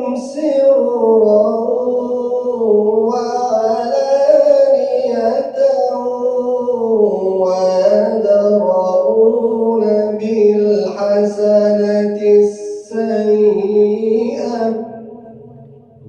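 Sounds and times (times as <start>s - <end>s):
man chanting verses: 0.0s - 15.3s.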